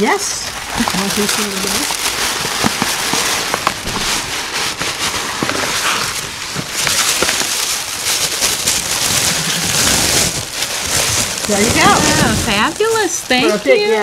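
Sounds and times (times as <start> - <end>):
paper bags rustling and crinkling: 0.0 - 14.0.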